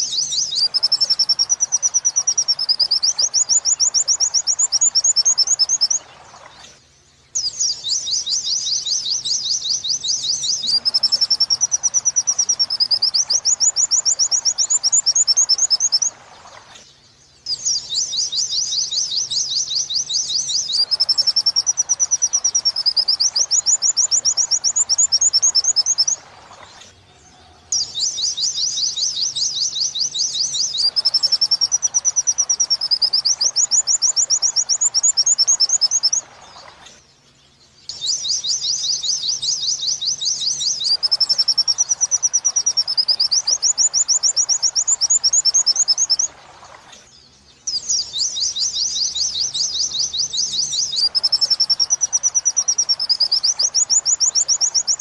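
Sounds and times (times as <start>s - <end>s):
white-eye bird song: 0.0s - 55.0s.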